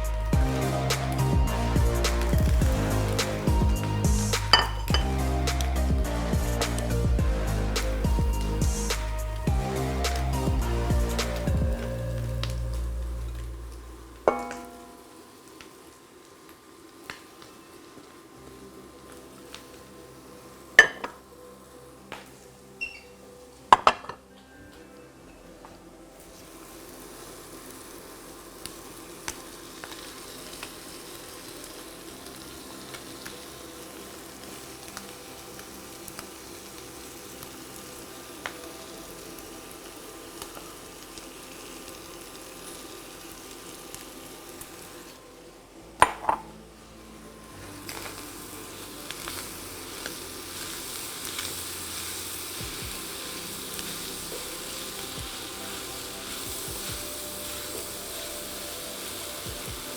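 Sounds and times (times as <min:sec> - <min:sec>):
food sizzling in a hot pan: 0:00.0 - 0:24.2, 0:26.2 - 0:59.9.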